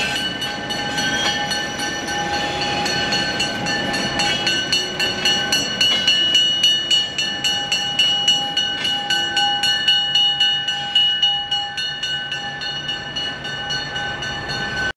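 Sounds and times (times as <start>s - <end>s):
passing train rumble: 0.0s - 14.9s
railroad crossing bell ringing: 0.0s - 14.9s.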